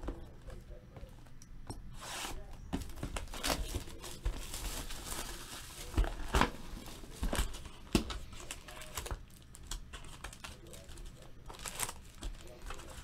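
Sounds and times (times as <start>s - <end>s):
wrappers crinkling: 2.1s - 13.0s.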